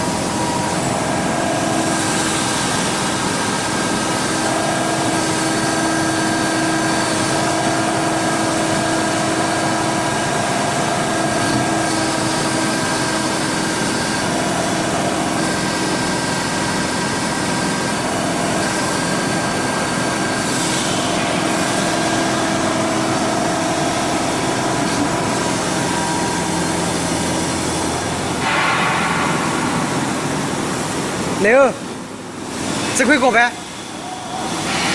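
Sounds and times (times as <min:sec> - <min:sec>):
hydraulic pump humming and whining: 0:00.0 - 0:34.9.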